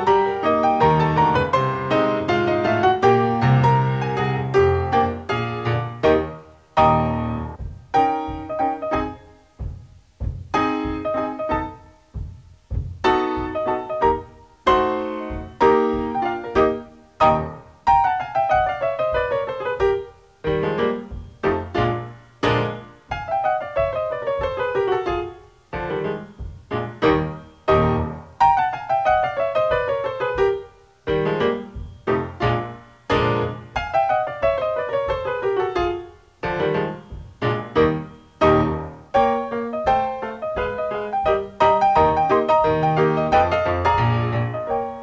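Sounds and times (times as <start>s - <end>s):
piano chords and runs: 0.0s - 45.0s.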